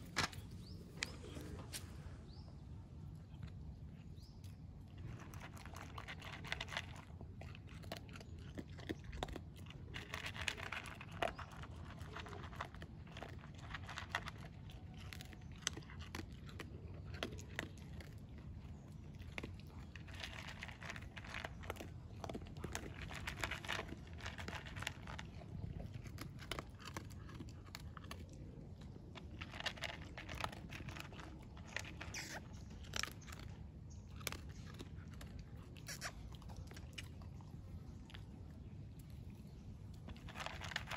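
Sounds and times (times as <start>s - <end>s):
dog chewing dry kibble: 0.0s - 2.4s, 3.1s - 40.9s.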